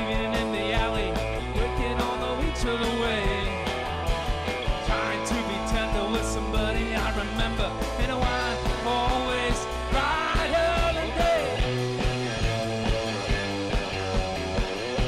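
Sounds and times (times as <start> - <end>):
bass guitar: 0.0 - 15.0
drum kit: 0.0 - 15.0
electric guitars: 0.0 - 15.0.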